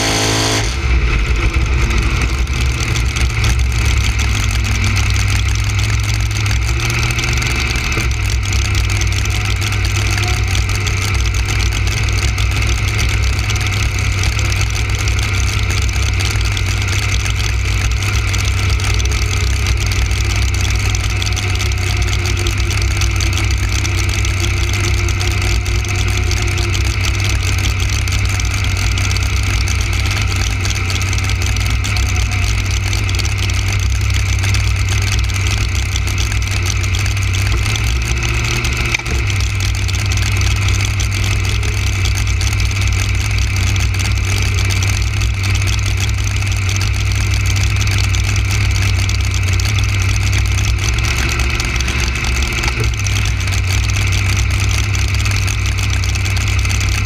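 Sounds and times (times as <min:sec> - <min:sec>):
drag racing engine idling: 0:00.0 - 0:57.0.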